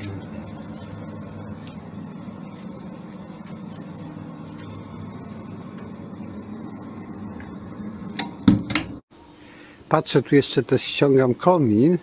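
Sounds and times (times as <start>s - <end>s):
boiler blower fan humming: 0.0s - 12.0s.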